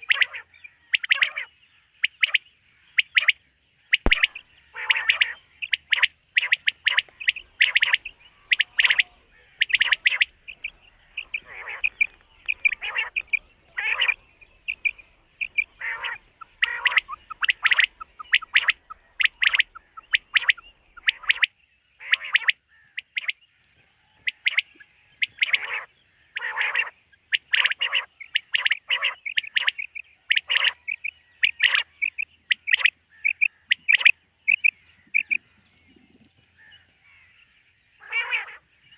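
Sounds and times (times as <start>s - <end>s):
quail calling: 0.0s - 23.4s, 24.2s - 37.3s, 38.0s - 38.9s.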